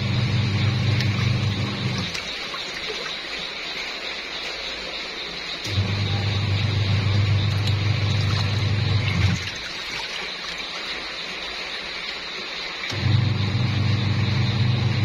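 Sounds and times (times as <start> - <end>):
washing machine motor humming: 0.0 - 15.0
water sloshing in tub: 0.4 - 13.1.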